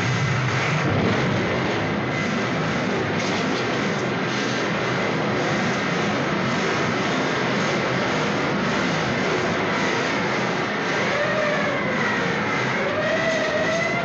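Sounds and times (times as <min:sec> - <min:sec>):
wall of distorted noise music: 0:00.0 - 0:14.0.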